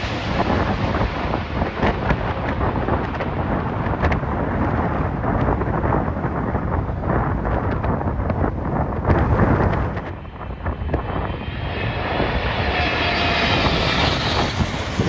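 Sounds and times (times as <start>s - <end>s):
jet engines rumbling overhead: 0.0s - 15.0s
wind on microphone: 0.0s - 15.0s.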